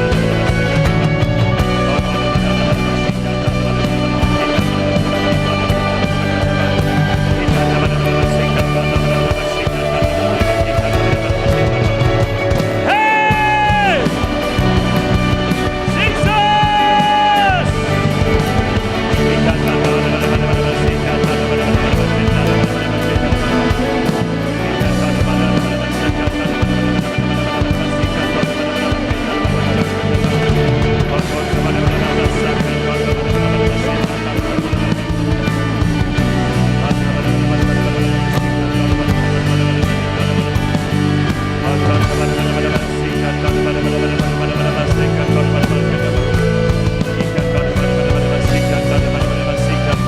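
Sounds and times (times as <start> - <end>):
rock worship band music: 0.0 - 50.0.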